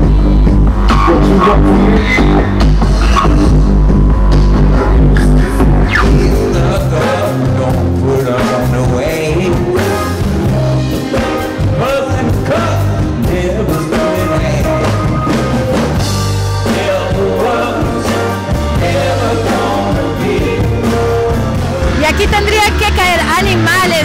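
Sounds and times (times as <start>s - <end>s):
drum kit: 0.0s - 24.0s
rock music with singing: 0.0s - 24.0s.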